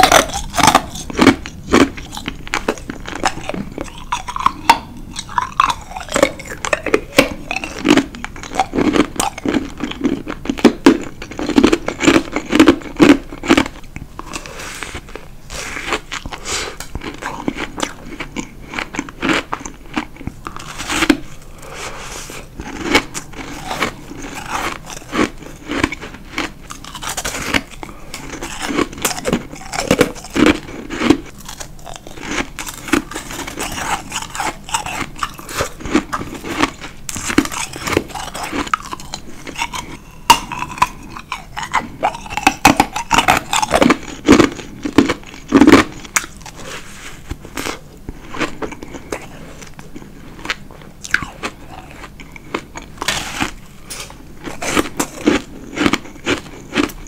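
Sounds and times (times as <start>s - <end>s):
ice being bitten and chewed: 0.0s - 57.0s.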